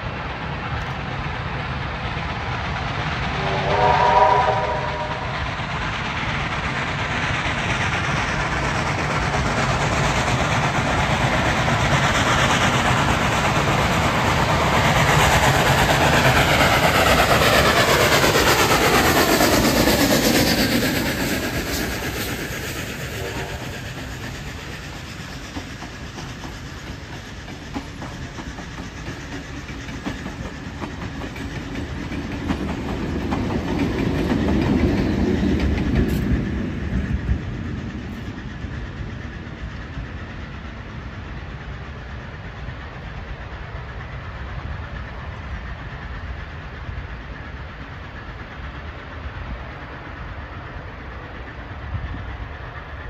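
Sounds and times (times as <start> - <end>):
train passing with falling whine: 0.0 - 53.0.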